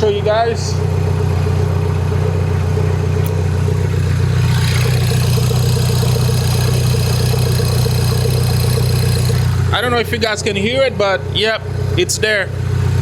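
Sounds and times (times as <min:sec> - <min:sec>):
car engine idling: 0:00.0 - 0:13.0
faint engine noise: 0:00.0 - 0:13.0.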